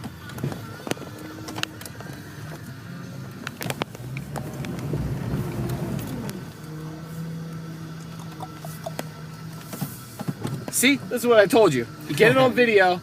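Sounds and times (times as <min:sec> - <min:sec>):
car engine revving and idling: 0:00.0 - 0:13.0.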